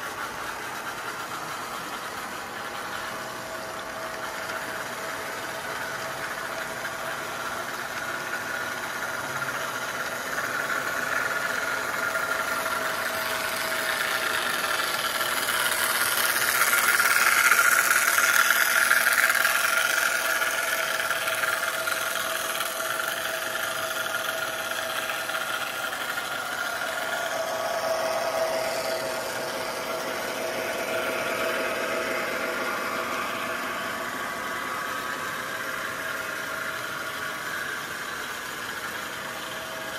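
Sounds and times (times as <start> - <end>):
toy train motor whine: 0.0 - 39.9
toy train wheel rumble: 0.0 - 39.9.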